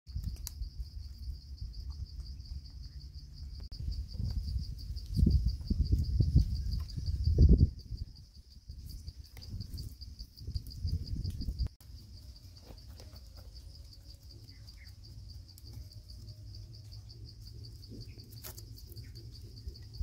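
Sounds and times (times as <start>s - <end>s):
insect chirping: 0.1s - 20.0s.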